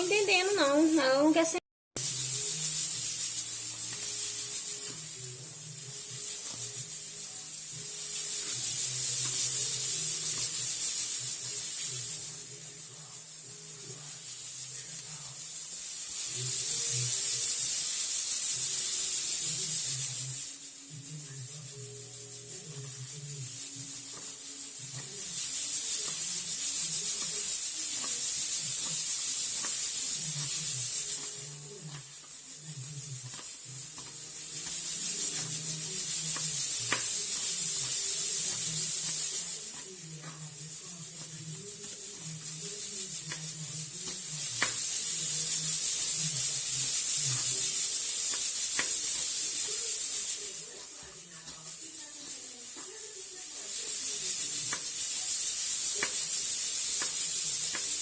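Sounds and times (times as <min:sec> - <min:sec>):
loud hissing: 0:02.0 - 0:20.9, 0:22.6 - 0:58.0.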